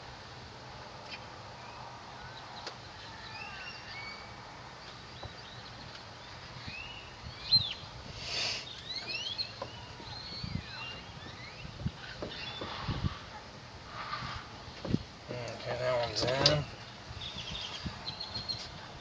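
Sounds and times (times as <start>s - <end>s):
birds chirping: 1.0s - 19.0s.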